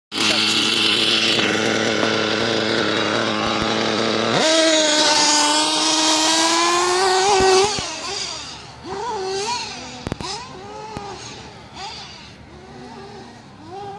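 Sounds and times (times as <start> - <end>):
small nitro engine revving: 0.1 - 13.9.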